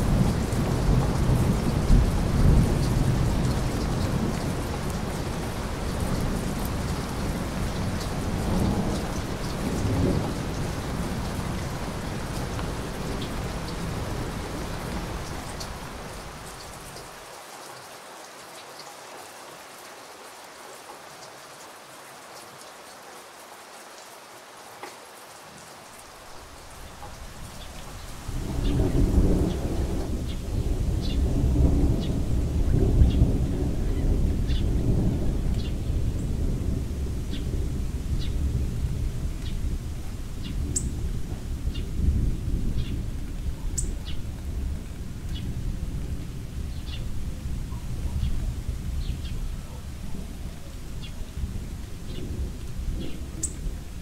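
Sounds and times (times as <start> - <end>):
thunder rumbling: 0.0 - 16.6, 27.1 - 54.0
rain falling: 0.0 - 54.0.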